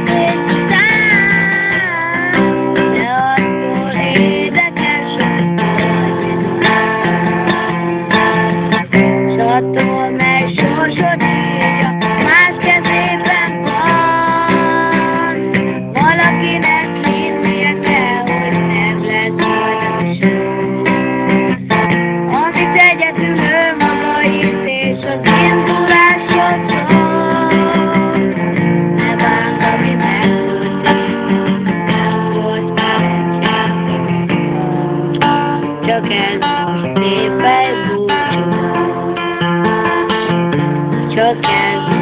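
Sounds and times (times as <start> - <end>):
boy singing: 0.0 - 6.2, 8.9 - 20.5, 22.3 - 40.3, 41.0 - 42.0
acoustic guitar strumming: 0.0 - 42.0.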